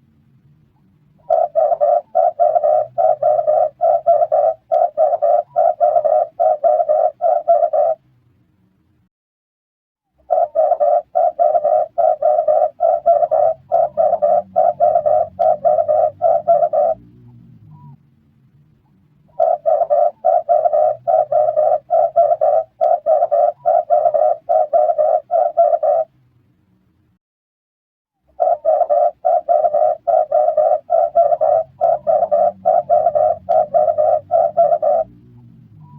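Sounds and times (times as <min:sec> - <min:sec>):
dove cooing: 0:01.2 - 0:08.0, 0:10.2 - 0:18.0, 0:19.3 - 0:26.1, 0:28.3 - 0:35.9.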